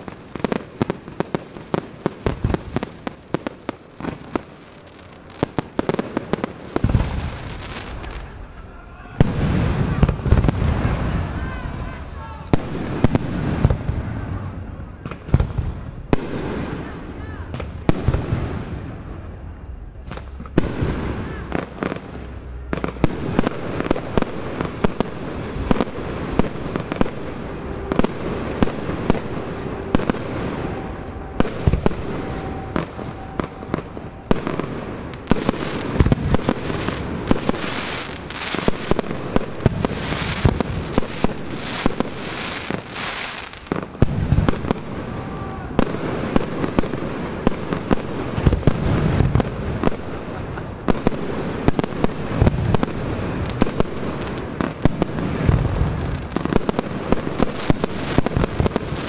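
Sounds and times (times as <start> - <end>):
fireworks bangs: 0.0 - 59.0
fireworks hissing crackle: 0.0 - 59.0.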